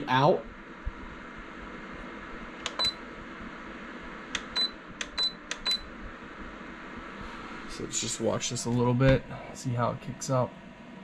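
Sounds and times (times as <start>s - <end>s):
heater fan whoosh: 0.0s - 11.0s.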